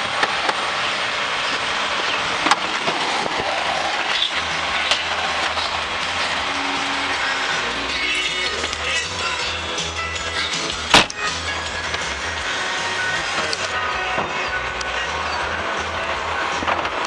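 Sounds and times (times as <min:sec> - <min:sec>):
garbage truck mechanical rattle: 0:00.0 - 0:17.0
low hum: 0:00.0 - 0:17.0.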